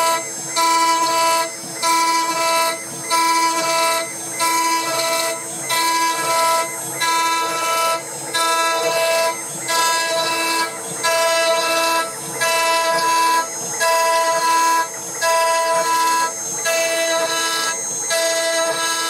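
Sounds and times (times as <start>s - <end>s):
cnc router whining: 0.0s - 19.0s.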